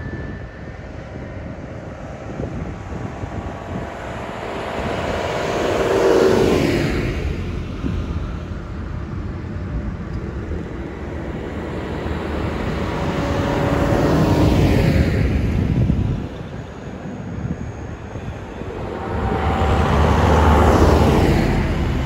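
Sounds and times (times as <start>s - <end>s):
distant tractor engines: 0.0s - 22.0s
tractor diesel engine passing: 0.8s - 22.0s.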